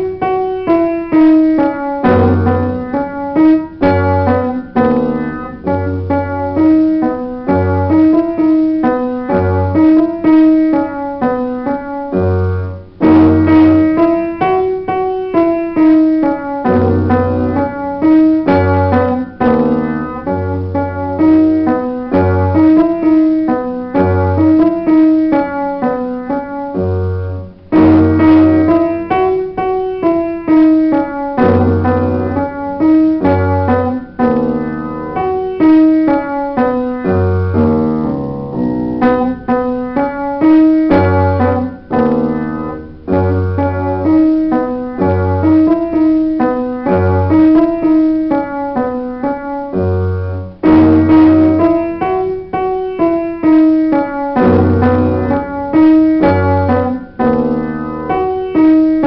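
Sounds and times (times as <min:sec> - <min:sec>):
solo upright piano: 0:00.0 - 0:59.0.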